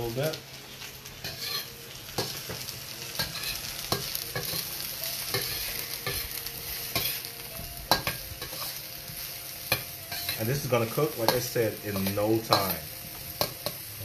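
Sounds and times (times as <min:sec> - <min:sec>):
vegetables sizzling in oil: 0:00.0 - 0:14.0
metal utensil scraping a pan: 0:01.2 - 0:07.3, 0:07.9 - 0:13.9.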